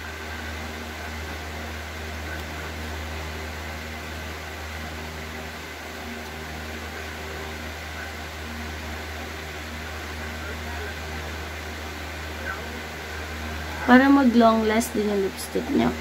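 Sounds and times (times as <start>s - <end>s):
low mechanical hum with hiss: 0.0s - 16.0s.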